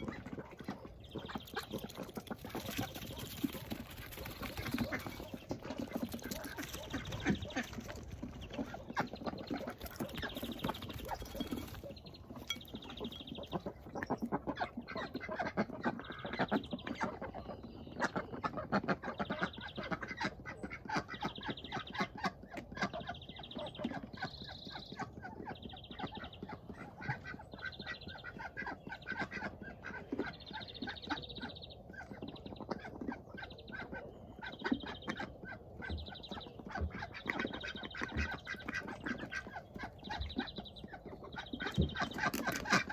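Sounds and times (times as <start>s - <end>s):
ducks quacking softly: 0.0s - 42.9s.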